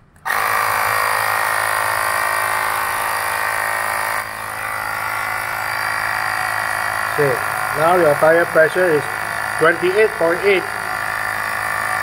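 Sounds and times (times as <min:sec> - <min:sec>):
electric compressor buzzing: 0:00.0 - 0:12.0.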